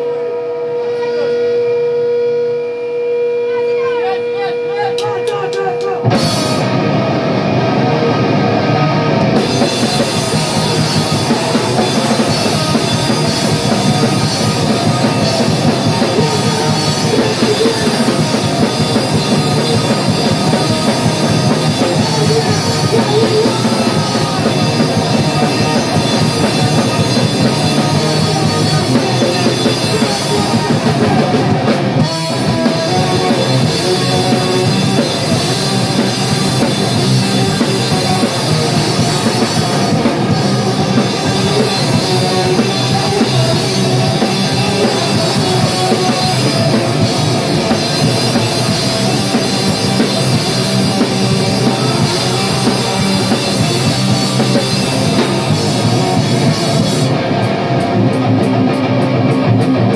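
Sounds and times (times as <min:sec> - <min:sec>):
distorted electric guitar: 0:00.0 - 0:59.9
drum kit playing fast: 0:04.8 - 0:59.9.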